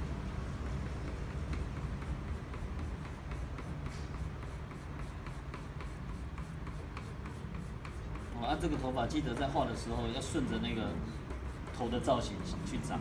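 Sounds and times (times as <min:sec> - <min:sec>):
steady low hum: 0:00.0 - 0:13.0
pencil strokes on paper: 0:00.6 - 0:13.0.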